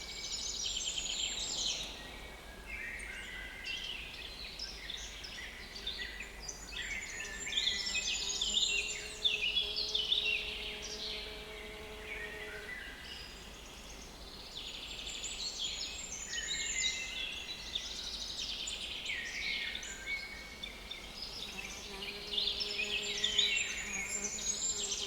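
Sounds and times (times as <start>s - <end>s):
small birds singing: 0.0s - 25.0s.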